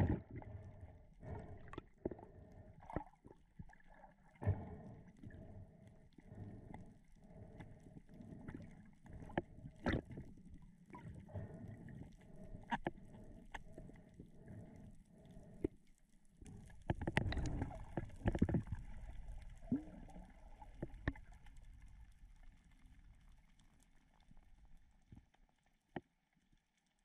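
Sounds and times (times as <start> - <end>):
water sloshing and gurgling: 0.0 - 26.6.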